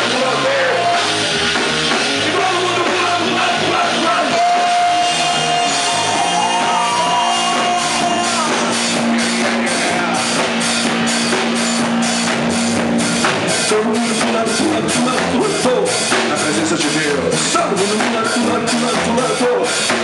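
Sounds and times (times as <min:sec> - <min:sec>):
drum kit steady beat: 0:00.0 - 0:20.0
worship band playing rock song: 0:00.0 - 0:20.0.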